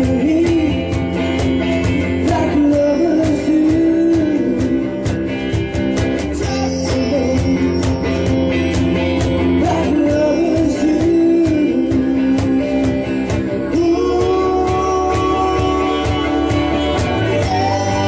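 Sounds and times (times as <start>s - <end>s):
live pop-rock band playing: 0.0s - 18.0s.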